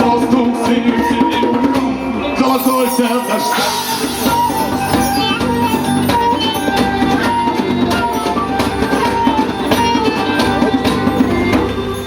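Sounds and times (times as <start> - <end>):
live band playing: 0.0 - 12.0
singing: 0.0 - 12.0
steady drum beat: 0.0 - 12.0
plucked strings: 2.3 - 12.0.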